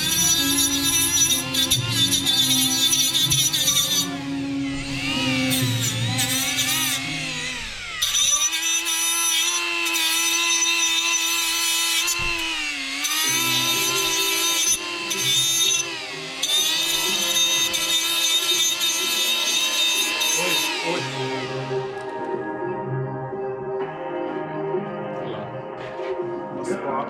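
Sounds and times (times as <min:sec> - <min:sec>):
grinder whining on sheet metal: 0:00.0 - 0:22.5.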